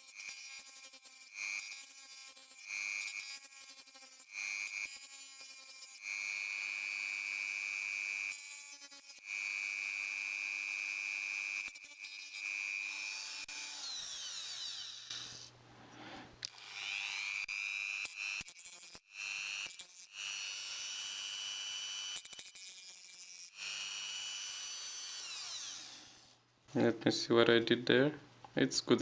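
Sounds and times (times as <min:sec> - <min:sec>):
rotary tool whining: 0:00.1 - 0:15.5, 0:16.4 - 0:26.4.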